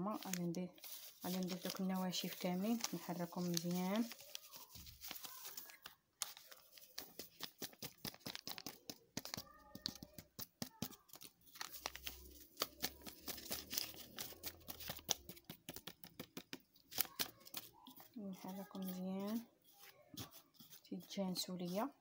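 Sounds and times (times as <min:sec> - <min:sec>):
utensil stirring flour in bowl: 0:00.0 - 0:11.0, 0:11.6 - 0:22.0.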